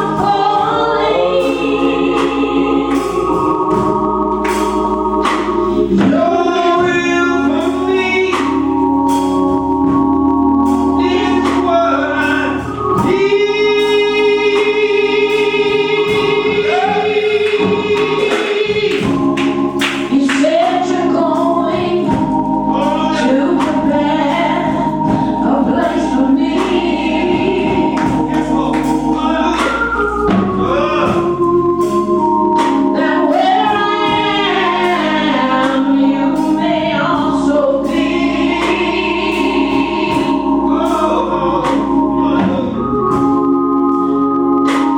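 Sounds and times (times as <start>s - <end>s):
gospel choir singing: 0.0s - 44.9s
organ chords: 0.0s - 44.9s.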